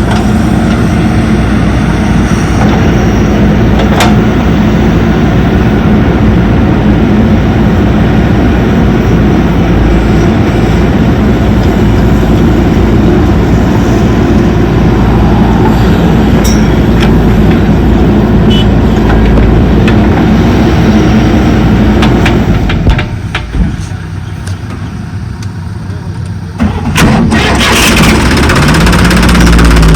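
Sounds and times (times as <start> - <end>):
heavy diesel engine running: 0.0 - 29.9.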